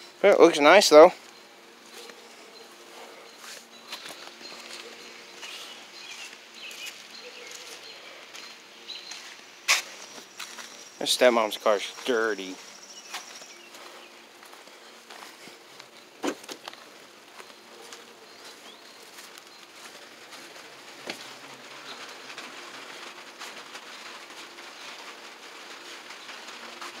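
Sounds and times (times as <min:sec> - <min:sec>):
light rain falling: 0:00.0 - 0:27.0.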